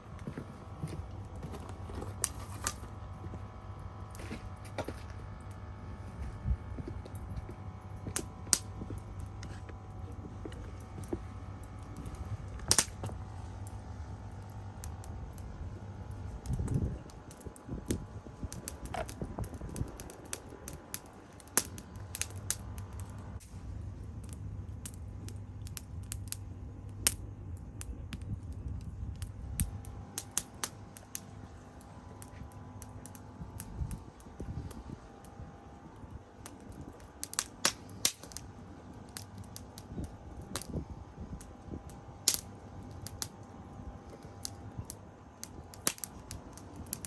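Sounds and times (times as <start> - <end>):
campfire crackling and popping: 0.0 - 47.0
low rumble of flames: 0.0 - 47.0.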